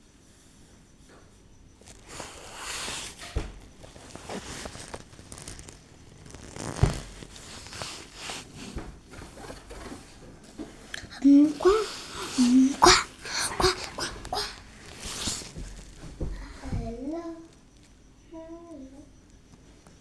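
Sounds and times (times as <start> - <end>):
rustling and scraping handling: 0.3 - 18.2.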